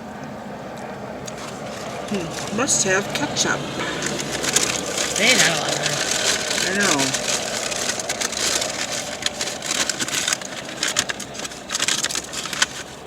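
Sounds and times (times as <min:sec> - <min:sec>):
paper bag crinkling: 0:01.2 - 0:13.0.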